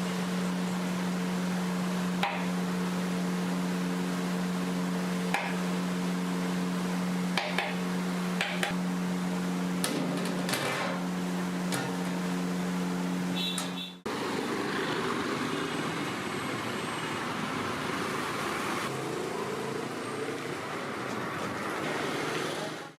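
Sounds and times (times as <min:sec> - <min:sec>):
road traffic noise: 0:00.0 - 0:23.0
steady mechanical hum: 0:00.0 - 0:23.0.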